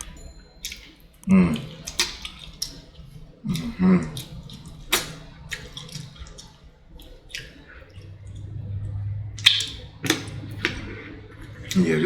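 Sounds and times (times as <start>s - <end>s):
low steady hum: 0.0s - 12.0s
wet chewing and lip-smacking: 0.0s - 12.0s.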